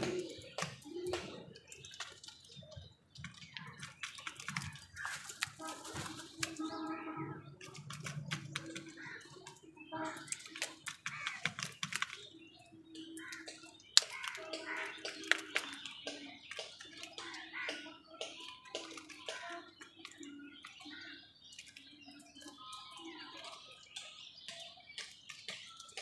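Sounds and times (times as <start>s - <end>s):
crows pecking taps and clicks: 0.0s - 26.0s.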